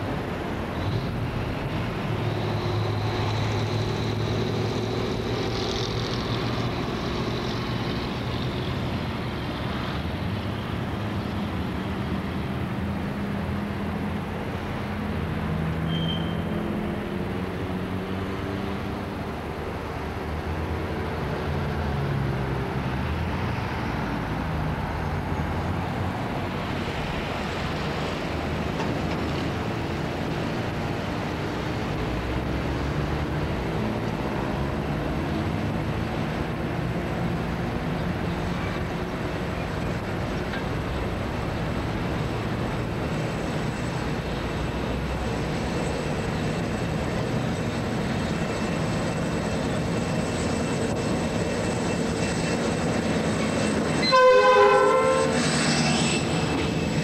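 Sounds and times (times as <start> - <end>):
diesel locomotive engine drone: 0.0 - 57.0
rumbling train noise: 0.0 - 57.0.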